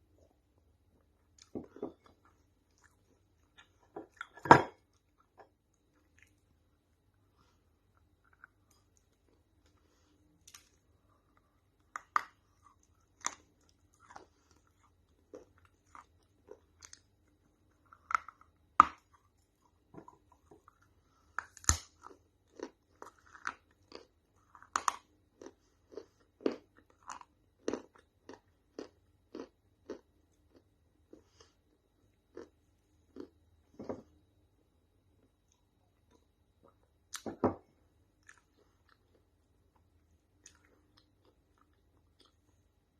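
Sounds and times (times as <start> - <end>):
person chewing crunchy food: 1.0 - 34.0, 38.1 - 42.7.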